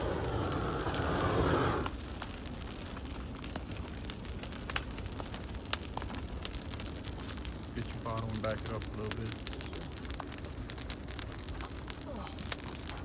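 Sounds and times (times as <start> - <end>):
burning trees crackling: 0.0 - 13.0.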